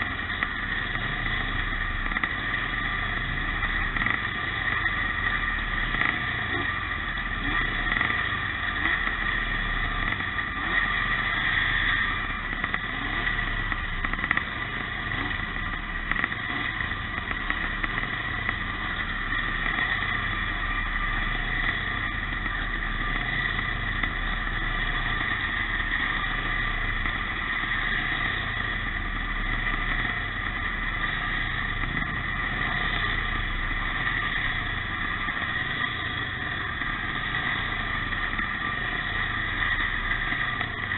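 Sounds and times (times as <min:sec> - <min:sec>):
motocross motorcycles racing: 0:00.0 - 0:40.9.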